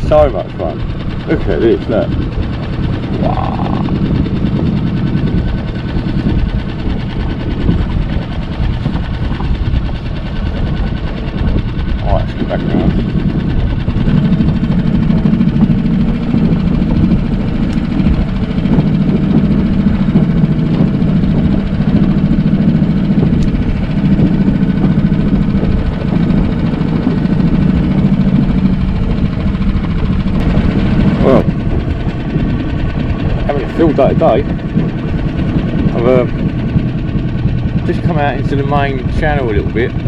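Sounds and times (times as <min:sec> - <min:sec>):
small outboard motor running: 0:00.0 - 0:40.0.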